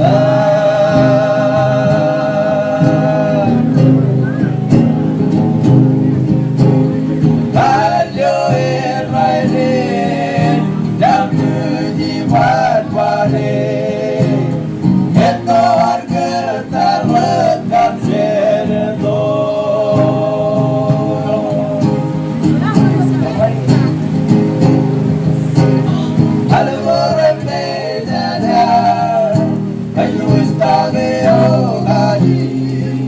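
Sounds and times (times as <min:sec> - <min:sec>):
group singing in harmony: 0:00.0 - 0:05.6, 0:07.2 - 0:22.7, 0:25.9 - 0:33.0.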